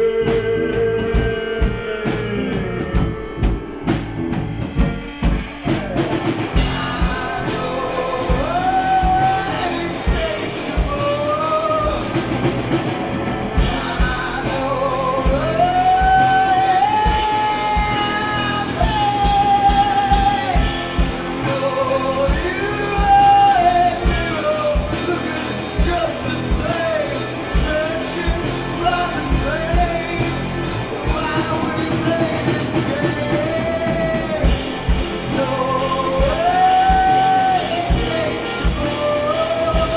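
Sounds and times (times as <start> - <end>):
person singing with vibrato: 0.0 - 3.9, 5.9 - 39.9
drums: 0.0 - 39.9
rock band playing live: 0.0 - 39.9.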